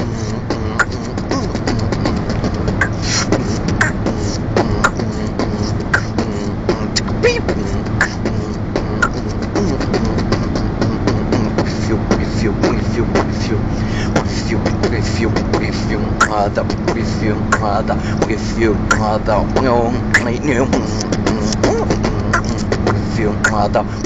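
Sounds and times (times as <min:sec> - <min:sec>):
beatboxing: 0:00.0 - 0:24.0.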